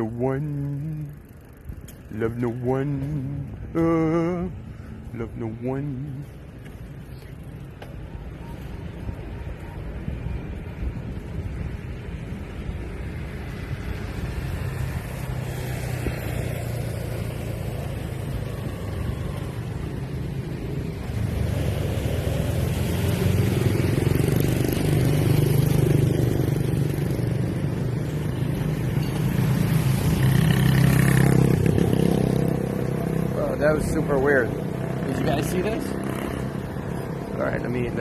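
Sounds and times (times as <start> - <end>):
motorbikes and cars passing: 0.0 - 38.0.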